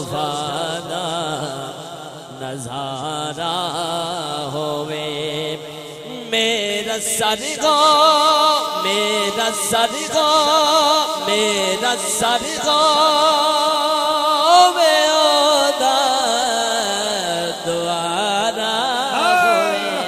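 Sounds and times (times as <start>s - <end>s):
man singing with vibrato: 0.0s - 20.0s.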